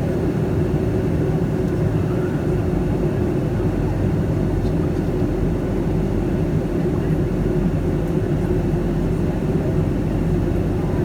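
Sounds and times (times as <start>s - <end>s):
airplane cabin engine hum: 0.0s - 11.0s.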